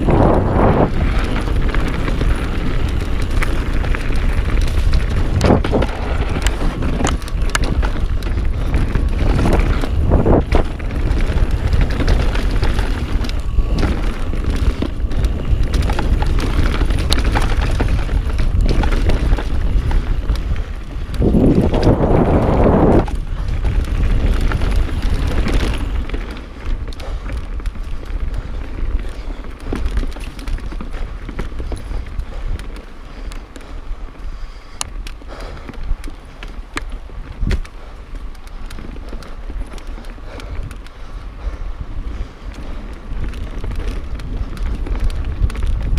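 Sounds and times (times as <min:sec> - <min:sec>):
bike clattering over bumps: 0:00.0 - 0:45.9
tyres rolling over dirt: 0:00.0 - 0:45.9
wind buffeting microphone: 0:00.0 - 0:45.9.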